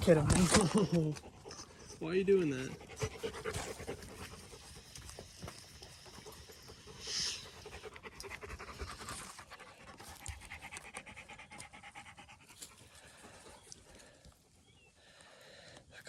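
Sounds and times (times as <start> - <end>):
dog panting: 0.1 - 15.1.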